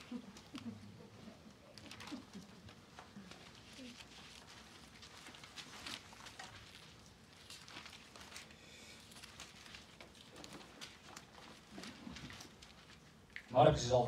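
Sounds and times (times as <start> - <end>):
faint handling rustles: 0.0 - 14.0.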